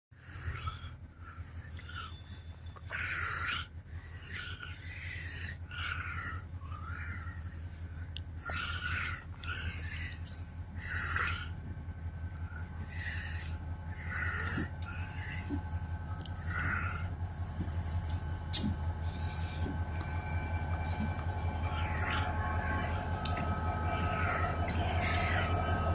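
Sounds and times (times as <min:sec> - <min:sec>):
diesel locomotive idling: 0:00.1 - 0:25.9
breathy rasping bursts: 0:00.2 - 0:25.9.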